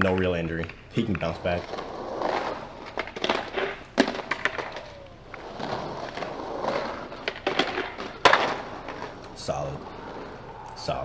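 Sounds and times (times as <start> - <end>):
skateboard clacks: 0.0 - 10.5
skateboard wheels rolling on cobbles: 0.0 - 11.0
skateboard grinding concrete ledge: 1.0 - 10.6.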